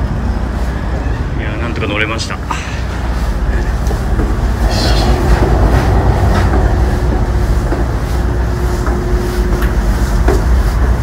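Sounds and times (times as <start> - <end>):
constant hum: 0.0 - 11.0
ship engine rumbling: 0.0 - 11.0.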